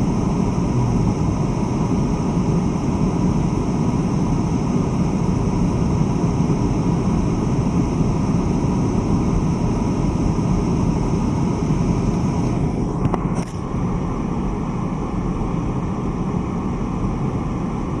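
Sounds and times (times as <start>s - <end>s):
car road and engine hum: 0.0s - 18.0s.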